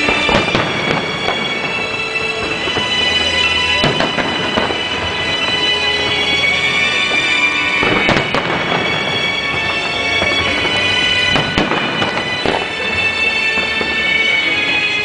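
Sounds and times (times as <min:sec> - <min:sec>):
fireworks bursting: 0:00.0 - 0:15.0
music with long held tones: 0:00.0 - 0:15.0
sharp bangs: 0:00.0 - 0:15.0.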